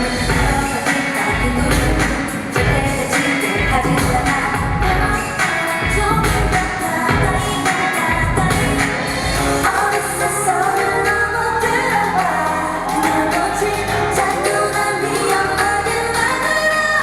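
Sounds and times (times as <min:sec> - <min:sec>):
pop backing track: 0:00.0 - 0:17.0
women singing: 0:00.0 - 0:17.0.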